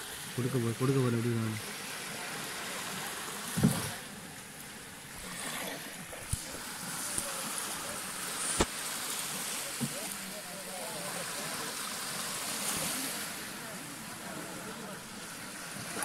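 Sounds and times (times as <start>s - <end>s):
sea surf on beach: 0.0s - 16.0s.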